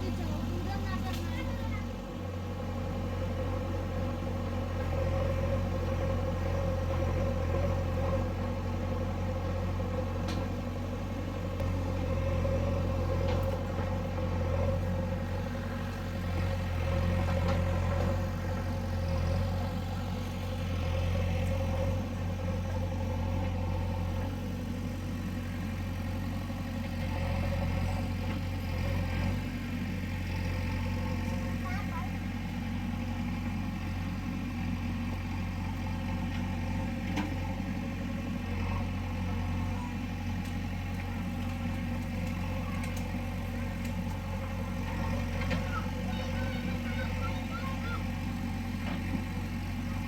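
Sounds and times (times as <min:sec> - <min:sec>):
diesel engine humming: 0:00.0 - 0:50.0.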